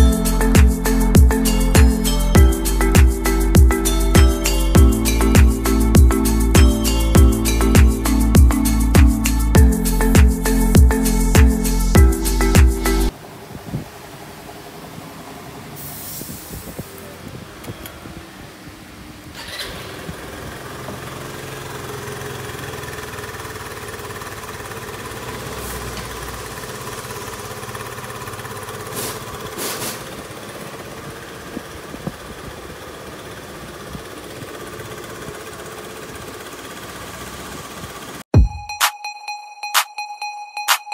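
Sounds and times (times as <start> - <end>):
scooter engine running: 0.0 - 13.2, 16.8 - 38.3.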